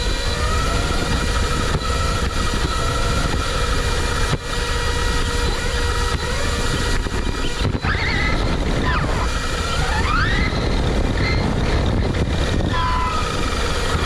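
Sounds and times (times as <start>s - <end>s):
electric motor whine: 0.0s - 14.0s
rumble of wheels and wind: 0.0s - 14.0s.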